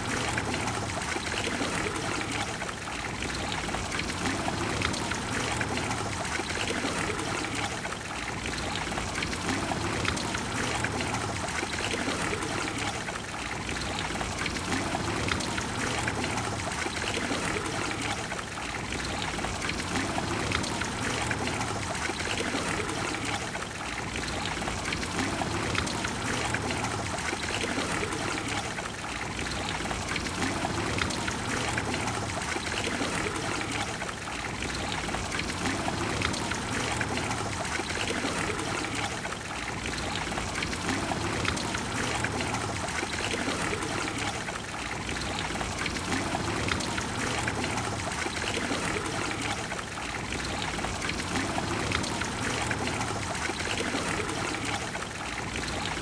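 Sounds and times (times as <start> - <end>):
fountain water cascading into basin: 0.0 - 56.0.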